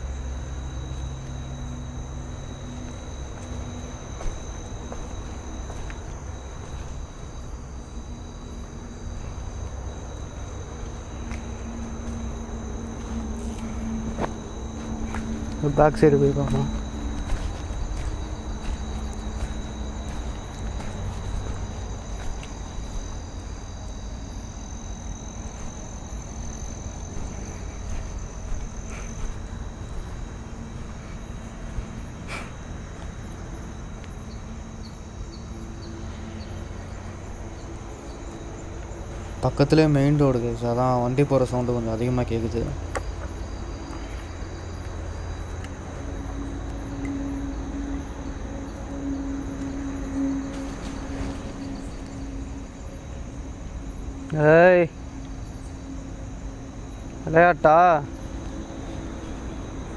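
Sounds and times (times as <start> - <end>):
crickets trilling: 0.0 - 59.9
low traffic rumble: 0.0 - 59.9.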